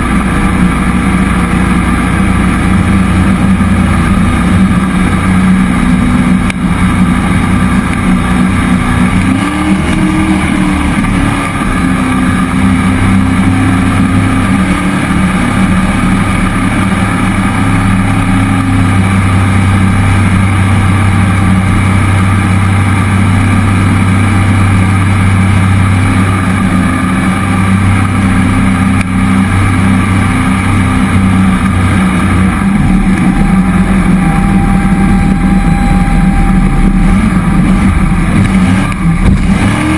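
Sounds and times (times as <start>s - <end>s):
jet boat engine cruising: 0.0s - 39.9s.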